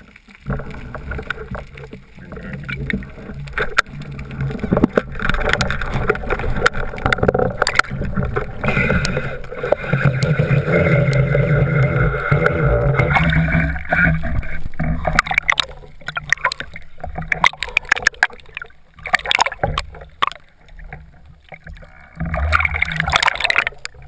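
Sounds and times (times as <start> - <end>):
water rushing and bubbling underwater: 0.0 - 24.0.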